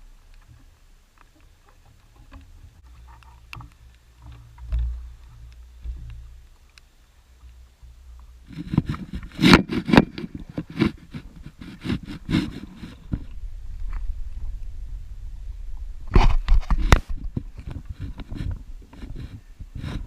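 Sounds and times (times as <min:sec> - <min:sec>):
motorboat engine hum: 0:00.0 - 0:16.6.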